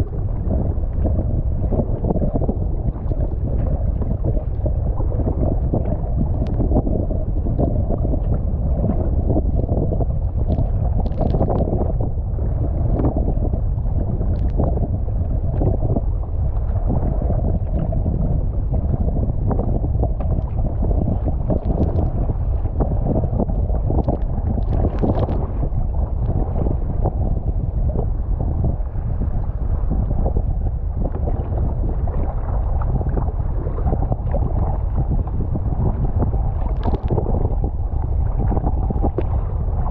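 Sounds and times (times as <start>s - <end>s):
water lapping around kayak: 0.0s - 39.9s
wind buffeting microphone: 0.0s - 39.9s.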